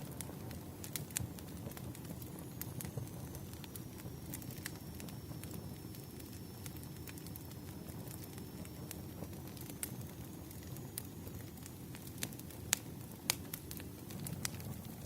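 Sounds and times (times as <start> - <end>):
campfire rumble: 0.0 - 15.0
fire crackling and popping: 0.0 - 15.0.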